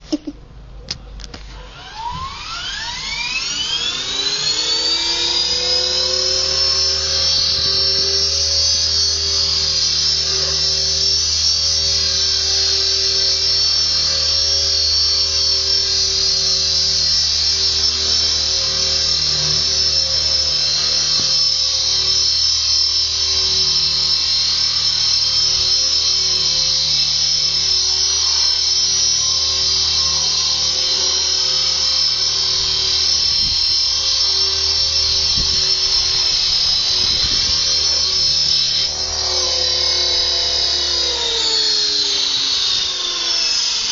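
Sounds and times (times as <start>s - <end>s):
rc helicopter motor whine: 0.0s - 43.9s
rotor hum: 0.0s - 43.9s.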